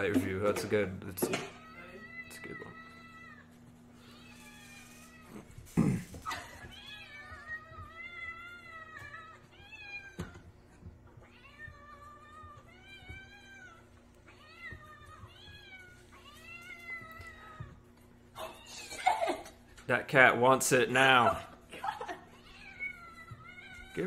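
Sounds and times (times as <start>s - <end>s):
cats meowing: 1.2s - 19.8s, 21.0s - 24.0s.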